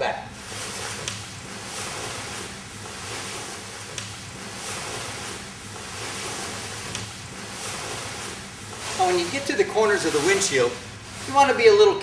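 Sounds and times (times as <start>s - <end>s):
fabric boat cover rustling: 0.3s - 12.0s.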